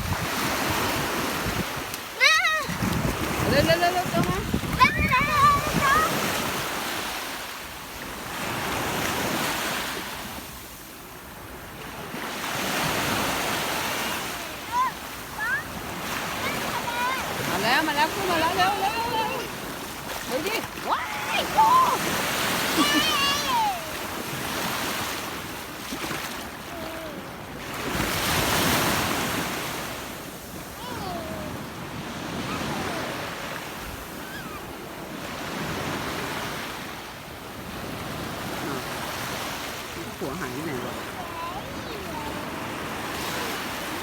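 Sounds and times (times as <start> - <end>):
breaking waves rushing: 0.0 - 44.0.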